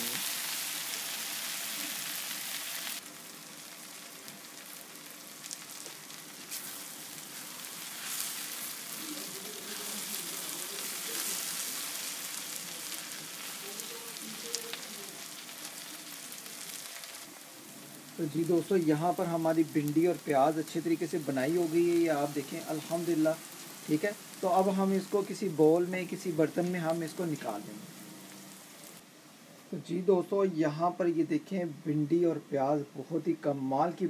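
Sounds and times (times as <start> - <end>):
vegetables sizzling in a pan: 0.0 - 29.1.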